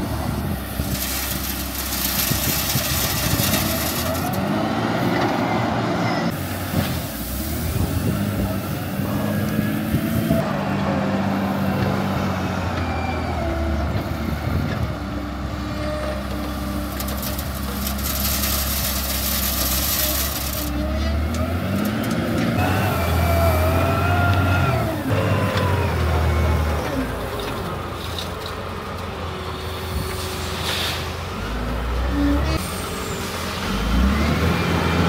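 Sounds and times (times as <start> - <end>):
trucks and paving machinery running: 0.0 - 35.0.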